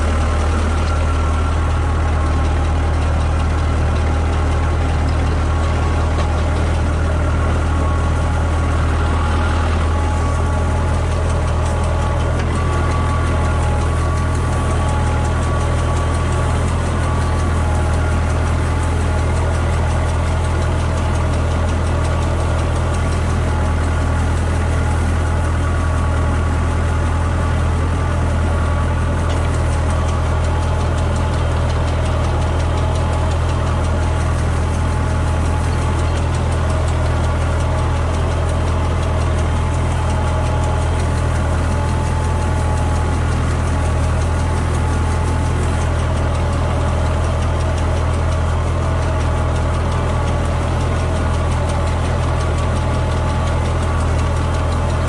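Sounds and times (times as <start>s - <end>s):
sprayer fan running: 0.0s - 55.0s
tractor engine running: 0.0s - 55.0s.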